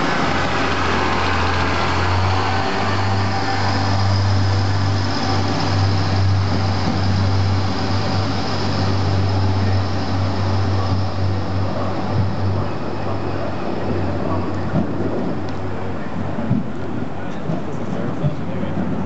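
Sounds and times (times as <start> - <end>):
train diesel engines humming: 0.0 - 19.0.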